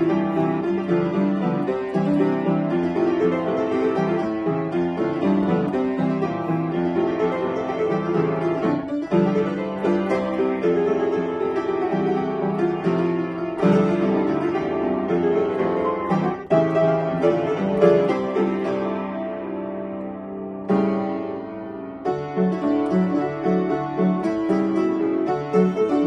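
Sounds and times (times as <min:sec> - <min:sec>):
upright piano playing songs: 0:00.0 - 0:26.0.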